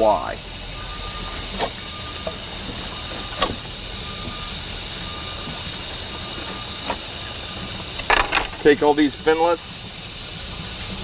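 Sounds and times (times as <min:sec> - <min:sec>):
engine-like hum: 0:00.0 - 0:11.0.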